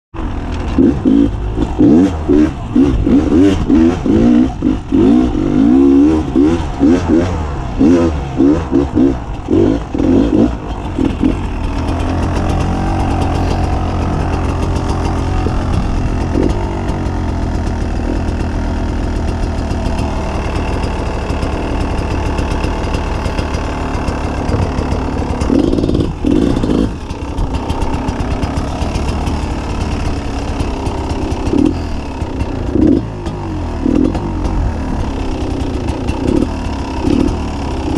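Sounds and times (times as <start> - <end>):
two-stroke motorbike engine revving: 0.1 - 37.9.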